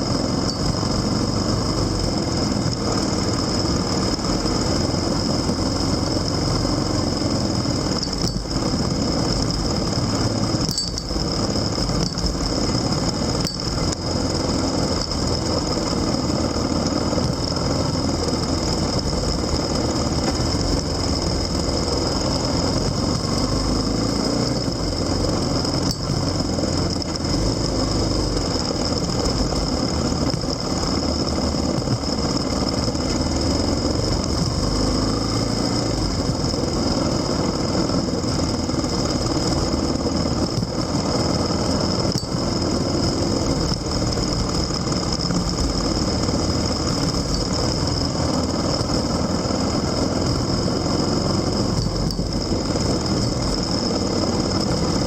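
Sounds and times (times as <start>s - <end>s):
high whine: 0.0s - 55.0s
road and wind noise: 0.0s - 55.0s
vehicle engine running: 0.0s - 55.0s.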